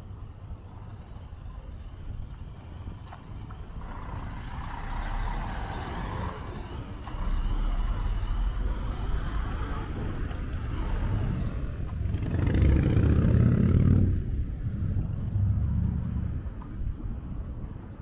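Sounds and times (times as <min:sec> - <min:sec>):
vehicles passing with engine rumble: 0:00.0 - 0:18.0.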